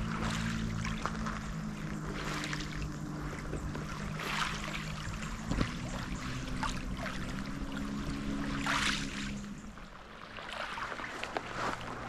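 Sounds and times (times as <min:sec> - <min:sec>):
small waves lapping on pebbles: 0:00.0 - 0:12.0
steady low hum: 0:00.0 - 0:12.0.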